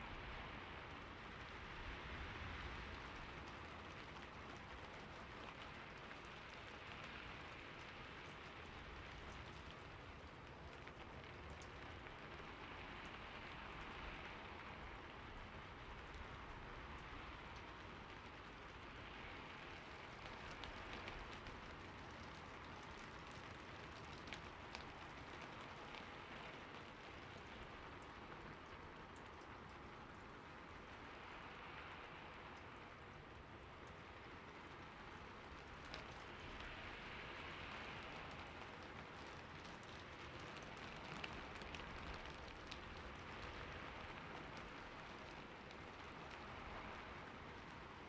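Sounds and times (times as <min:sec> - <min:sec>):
rain pattering on a roof: 0:00.0 - 0:48.0.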